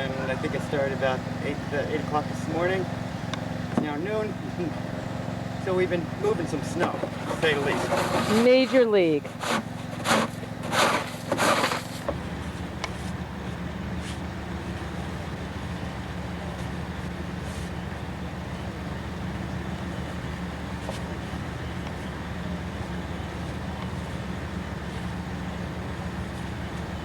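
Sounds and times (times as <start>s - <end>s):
snowblower engine running: 0.0s - 27.0s.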